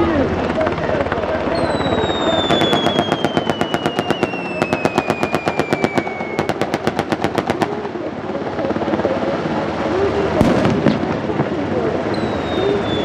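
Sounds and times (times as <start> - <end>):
helicopter turbine whine: 0.0 - 13.0.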